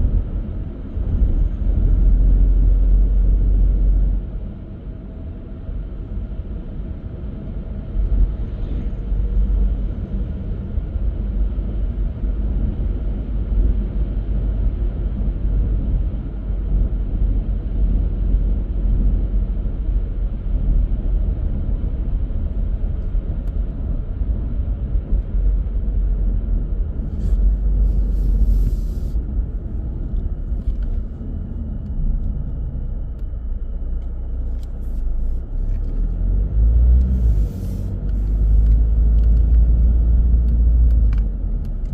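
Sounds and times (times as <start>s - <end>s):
car tyre and engine rumble: 0.0s - 41.9s.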